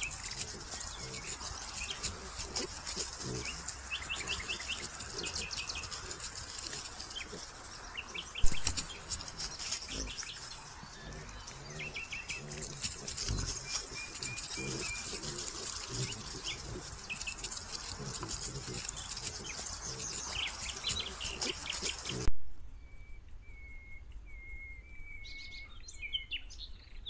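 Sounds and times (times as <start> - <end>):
dry leaves crackling: 0.0 - 22.3
small birds chirping: 0.0 - 27.0.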